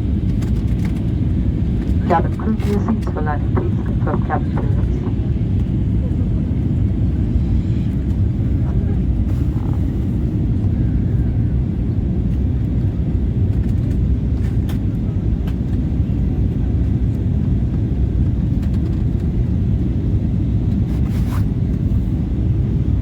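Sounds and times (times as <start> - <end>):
aircraft cabin engine rumble: 0.0 - 23.0.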